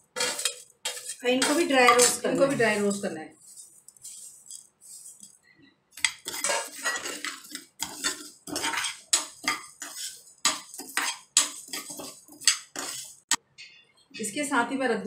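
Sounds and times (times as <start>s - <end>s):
spatula scraping steel pan: 0.0s - 13.4s.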